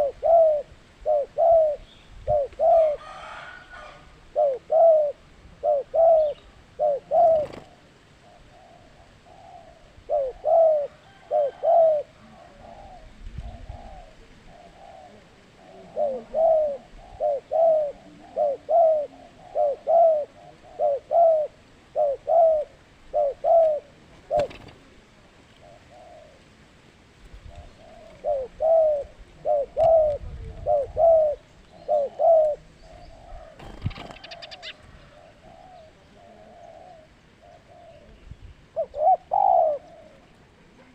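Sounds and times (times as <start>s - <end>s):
dove cooing: 0.0s - 26.7s, 27.4s - 40.9s.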